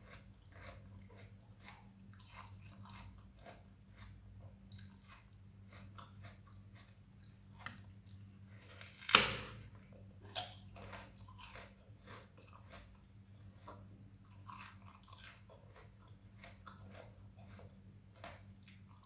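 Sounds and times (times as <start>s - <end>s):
crunchy fruit bite: 0.0s - 7.9s, 8.6s - 19.0s
crunchy chewing: 0.0s - 19.0s.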